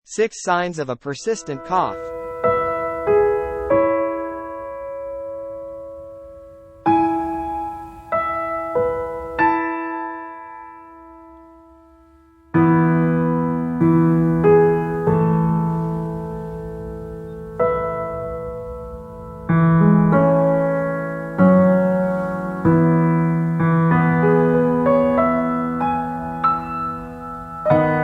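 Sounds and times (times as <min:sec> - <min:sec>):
slow piano music: 0:01.4 - 0:28.0.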